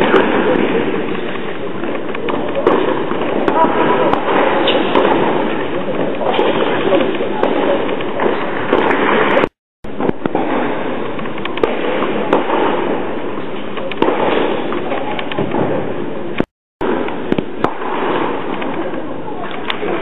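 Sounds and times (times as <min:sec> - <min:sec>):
steady indoor din: 0:00.0 - 0:20.0.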